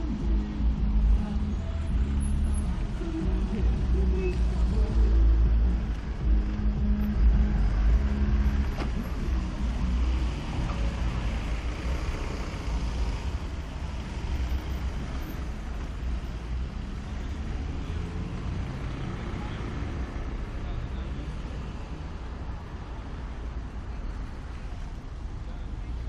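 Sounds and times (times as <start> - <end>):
street traffic: 0.0 - 26.0
vehicle engine rumbling: 0.0 - 26.0.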